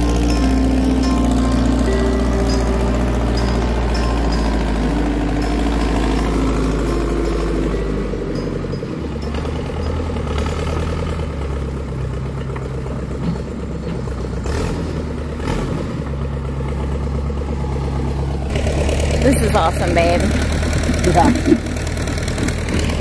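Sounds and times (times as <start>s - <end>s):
backhoe engine running: 0.0s - 23.0s.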